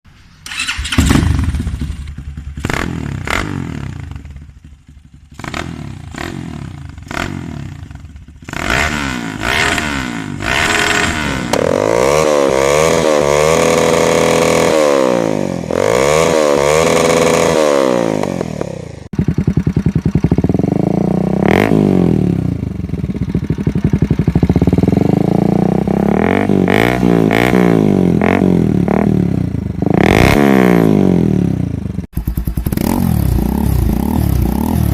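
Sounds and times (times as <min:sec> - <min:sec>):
motorcycle engine revving: 0:00.4 - 0:34.9.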